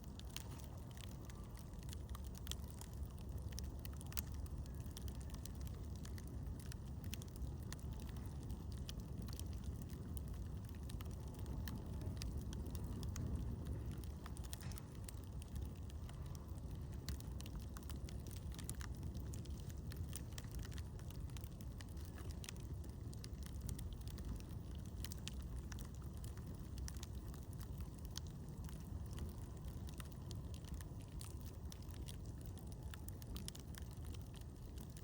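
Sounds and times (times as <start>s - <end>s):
steady low rumbling: 0.0s - 34.9s
campfire crackling: 0.0s - 35.0s.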